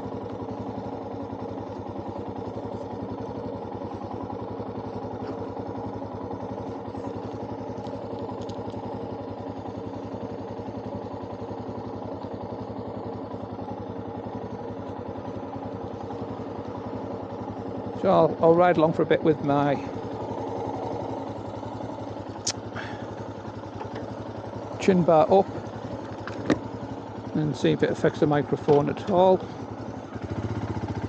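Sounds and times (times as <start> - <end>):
motorcycle engine cruising: 0.0 - 31.0.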